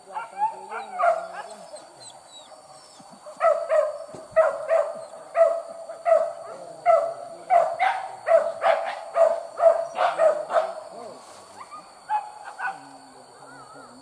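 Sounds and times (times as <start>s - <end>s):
hunting dog barking: 0.0s - 2.0s, 3.2s - 13.0s.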